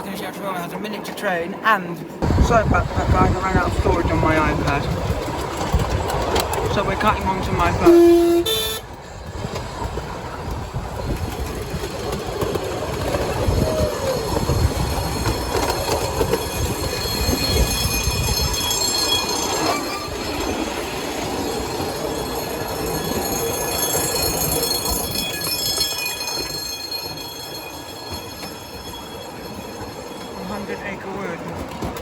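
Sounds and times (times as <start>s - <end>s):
wheels rumbling on rail: 0.0s - 32.0s
wheel squeals: 3.1s - 32.0s.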